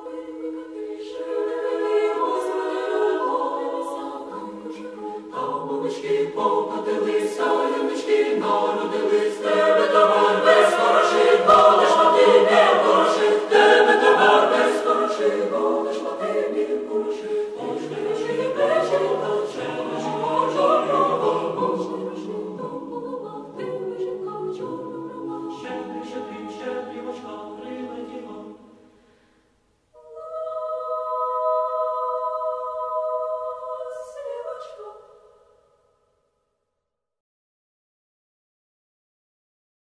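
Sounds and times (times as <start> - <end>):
choir singing a hymn: 0.0 - 29.0, 30.0 - 35.4.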